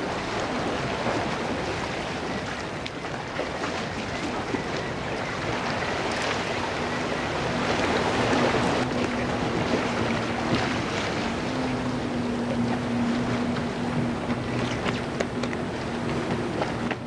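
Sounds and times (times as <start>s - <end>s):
low motor hum: 0.0s - 17.0s
sea washing against rocks: 0.0s - 17.0s
wind on microphone: 0.0s - 17.0s.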